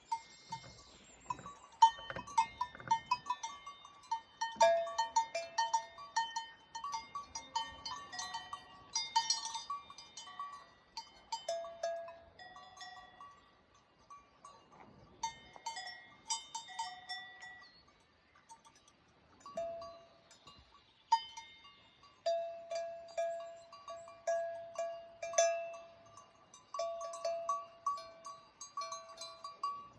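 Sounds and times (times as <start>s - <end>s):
cowbells clanking: 0.0s - 29.9s.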